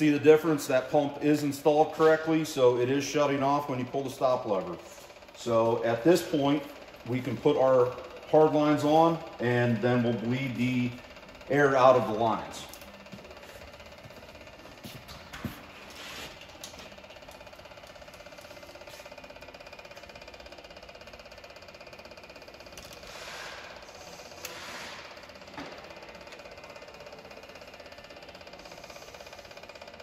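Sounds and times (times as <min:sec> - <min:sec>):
pulsing mechanical hum: 0:00.0 - 0:30.0.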